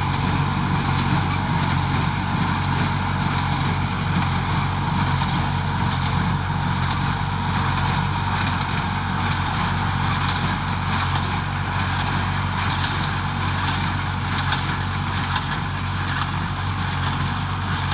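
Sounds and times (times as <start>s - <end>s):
baler engine droning: 0.0s - 16.8s.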